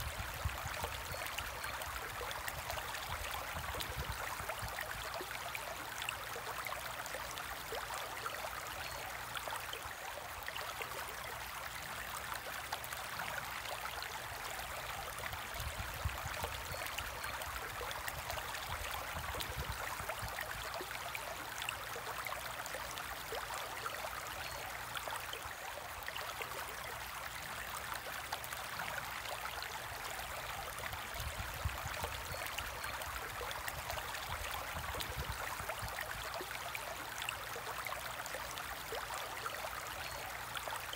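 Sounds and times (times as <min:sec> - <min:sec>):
aquarium water trickling and bubbling: 0:00.0 - 0:40.9.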